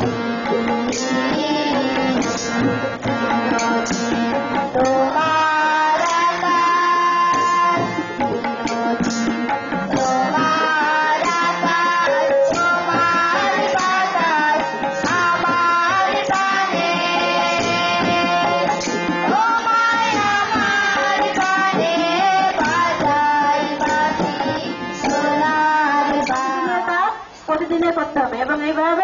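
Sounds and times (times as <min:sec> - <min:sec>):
harmonium chords: 0:00.0 - 0:27.5
hand drums: 0:00.0 - 0:27.7
children singing: 0:00.1 - 0:26.8.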